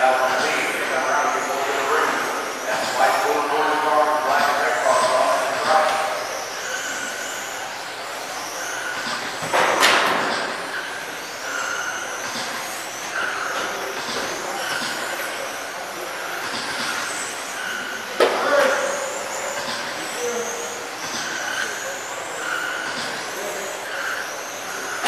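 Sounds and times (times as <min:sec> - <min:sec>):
rc car motors whining: 0:00.0 - 0:25.0.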